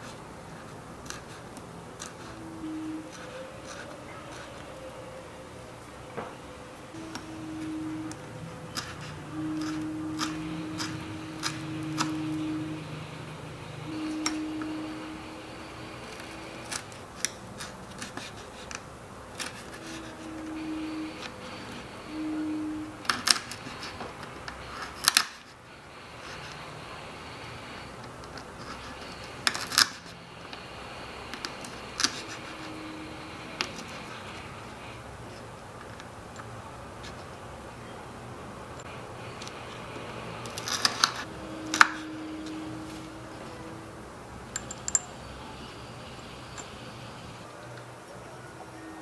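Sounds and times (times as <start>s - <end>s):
faint steady hiss: 0.0s - 49.0s.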